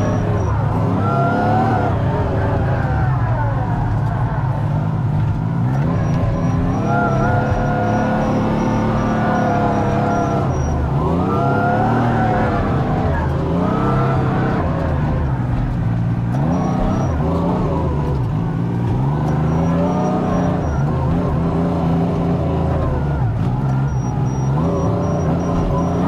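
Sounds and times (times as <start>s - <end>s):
diesel engine revving: 0.0s - 26.0s.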